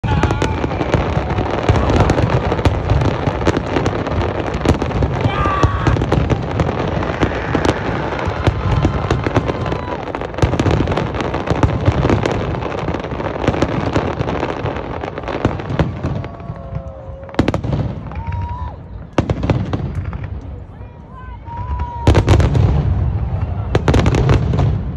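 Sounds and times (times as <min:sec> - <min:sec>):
fireworks bangs and crackling: 0:00.0 - 0:24.9.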